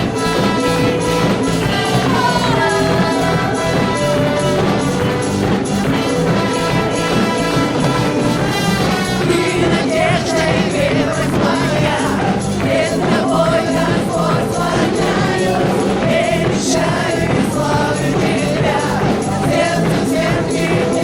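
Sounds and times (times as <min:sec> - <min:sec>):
band playing worship music: 0:00.0 - 0:21.0
group of voices singing: 0:00.0 - 0:21.0.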